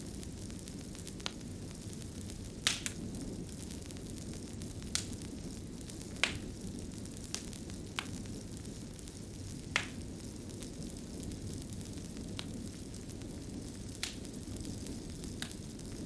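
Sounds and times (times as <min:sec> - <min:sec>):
crackling fire: 0:00.0 - 0:16.0.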